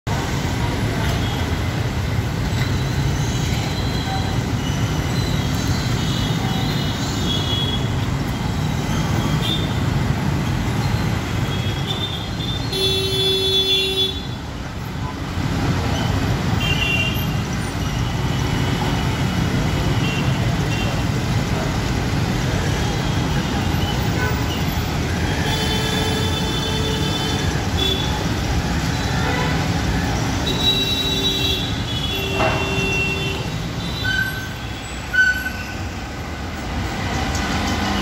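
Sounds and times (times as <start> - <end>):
traffic engines rumbling: 0.0 - 38.0.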